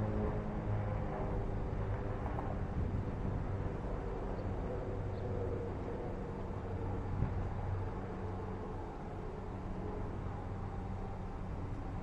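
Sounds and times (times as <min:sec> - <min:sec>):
strong wind: 0:00.0 - 0:12.0.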